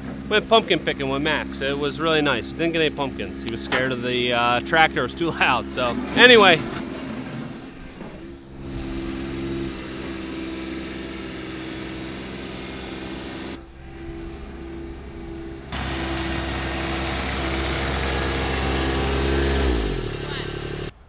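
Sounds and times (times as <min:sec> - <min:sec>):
loader engine running: 0:00.0 - 0:21.0.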